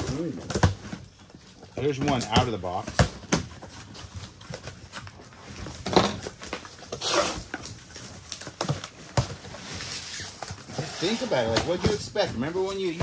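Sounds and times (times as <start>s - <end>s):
cardboard boxes being handled: 0.0s - 13.0s.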